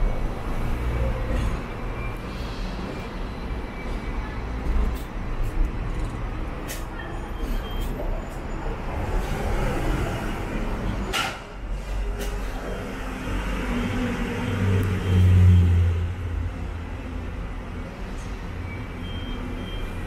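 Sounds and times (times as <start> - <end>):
tram ride rumble: 0.0 - 20.0.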